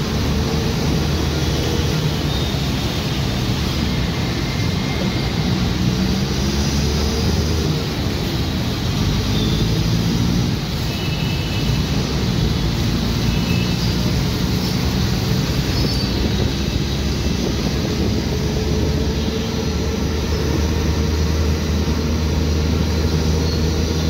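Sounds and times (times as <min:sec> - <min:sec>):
rain on road: 0:00.0 - 0:24.0
tyres hissing on wet road: 0:00.0 - 0:24.0.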